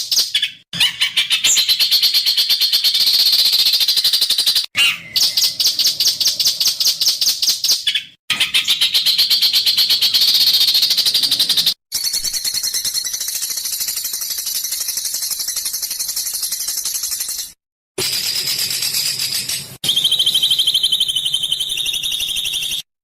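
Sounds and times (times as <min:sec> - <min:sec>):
songbird buzzy rattling song: 0:00.0 - 0:22.9.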